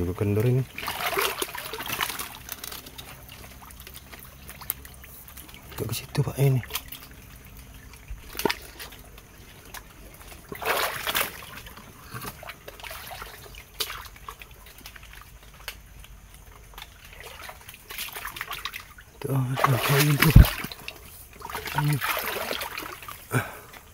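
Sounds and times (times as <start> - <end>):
wading steps splashing in water: 0.0 - 23.9.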